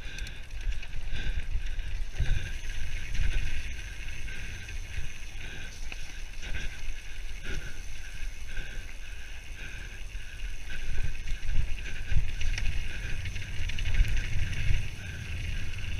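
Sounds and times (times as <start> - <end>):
wind buffeting microphone: 0.0 - 8.7, 10.4 - 15.9
bike rattling: 0.0 - 15.9
bike tyre and trail rumble: 0.0 - 15.9.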